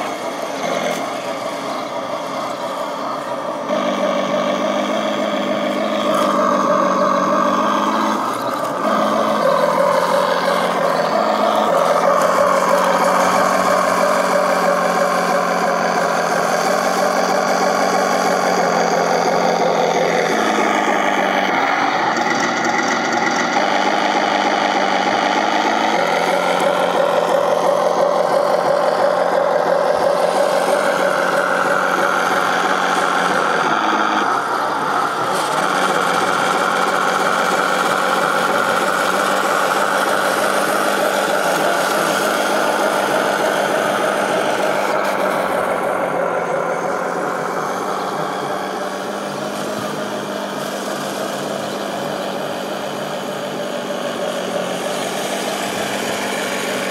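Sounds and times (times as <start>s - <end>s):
model tank motor drone and whine: 0.0s - 56.9s.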